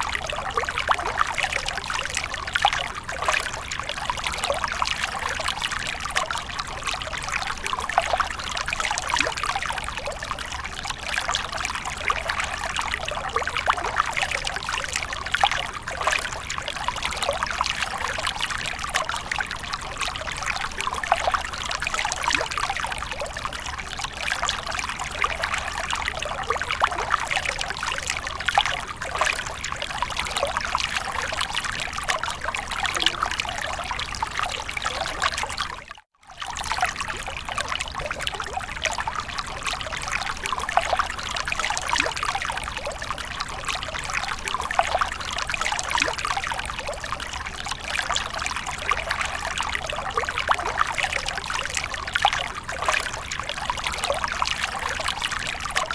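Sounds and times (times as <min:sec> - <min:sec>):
water splashing and trickling: 0:00.0 - 0:55.9.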